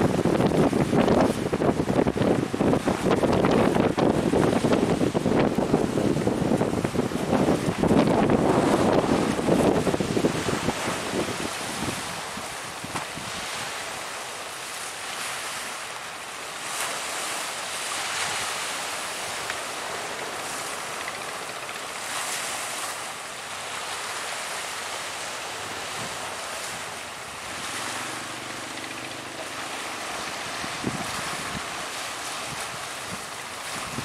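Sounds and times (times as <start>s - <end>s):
strong wind: 0.0s - 15.8s, 16.7s - 34.0s
sea waves: 0.0s - 34.0s.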